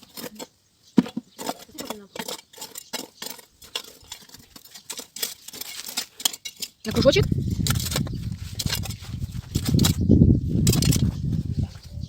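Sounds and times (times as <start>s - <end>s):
bricks and stones clinking: 0.0s - 10.0s, 10.6s - 11.2s
digging tool scraping soil: 0.0s - 12.0s.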